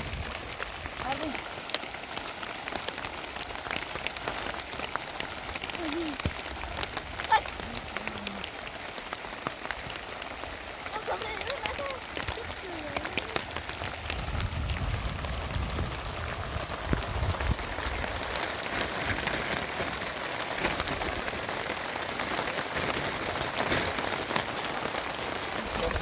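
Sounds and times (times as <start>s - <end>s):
heavy rain falling: 0.0s - 26.0s
sharp taps of raindrops: 0.0s - 26.0s.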